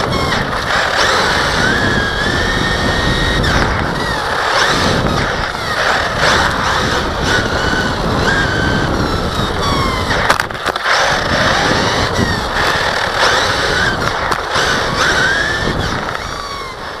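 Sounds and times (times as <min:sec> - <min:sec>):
electric motor whine: 0:00.0 - 0:17.0
sharp clicks: 0:00.0 - 0:17.0
tyres crunching on gravel: 0:00.0 - 0:17.0.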